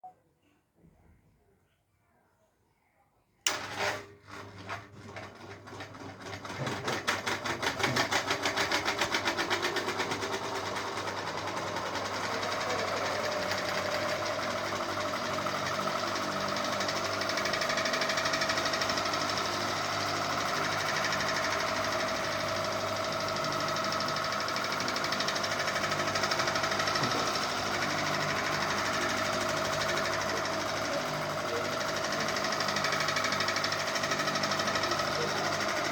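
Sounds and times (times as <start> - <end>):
ceiling fan whirring: 3.5 - 35.9.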